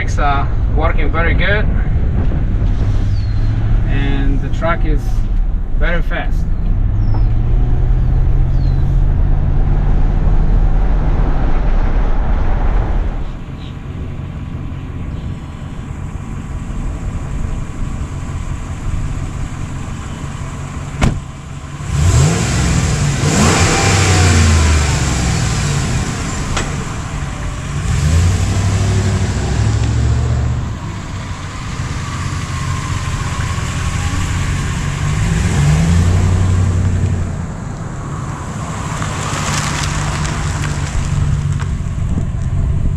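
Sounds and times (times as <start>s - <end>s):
truck engine accelerating: 0.0s - 42.9s.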